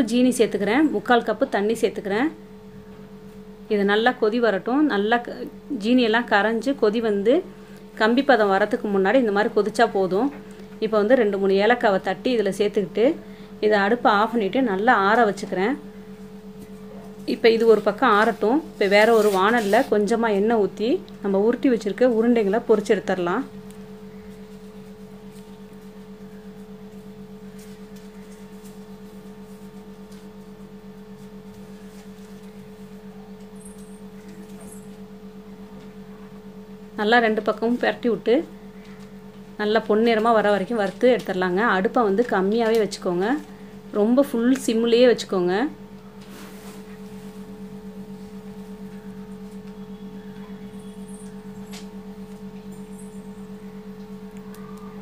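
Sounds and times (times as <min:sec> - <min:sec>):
low pulsing hum: 0:00.0 - 0:55.0.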